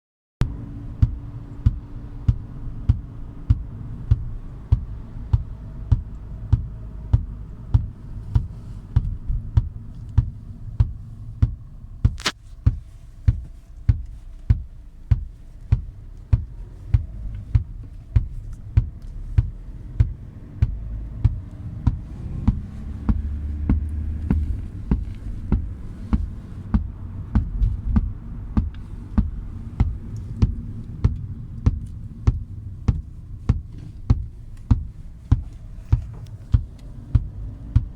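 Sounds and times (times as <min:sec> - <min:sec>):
constant hum: 0:00.4 - 0:37.9
low bumps from car speakers: 0:00.4 - 0:37.9.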